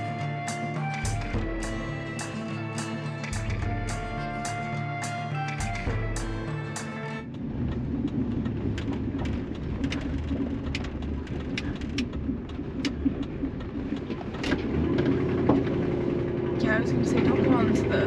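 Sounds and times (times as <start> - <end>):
truck engine and tyres rumble: 0.0 - 18.0.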